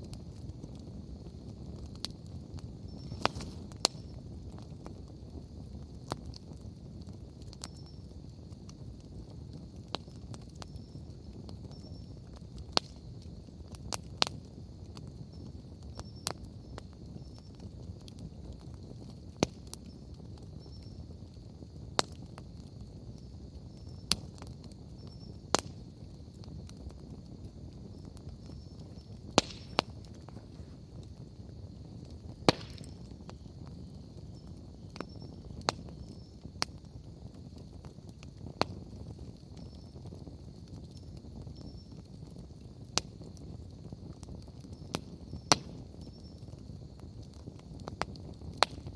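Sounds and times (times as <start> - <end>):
campfire crackling: 0.0 - 48.9
sharp pops of fire: 0.0 - 48.9.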